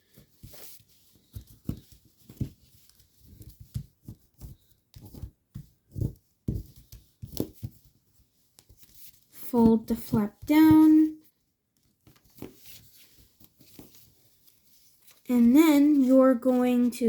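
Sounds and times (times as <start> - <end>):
paper crinkling and folding: 0.0 - 17.0.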